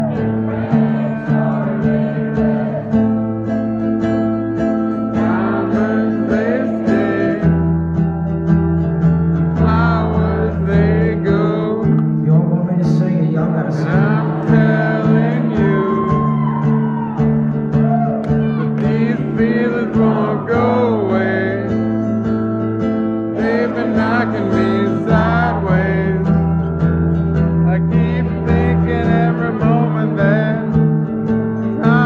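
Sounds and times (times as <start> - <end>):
guitar playing: 0.0 - 32.0.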